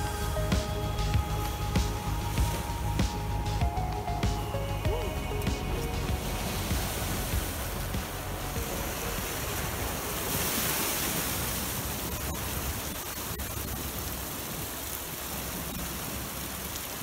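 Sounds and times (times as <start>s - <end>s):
sea waves breaking on rock: 0.0s - 17.0s.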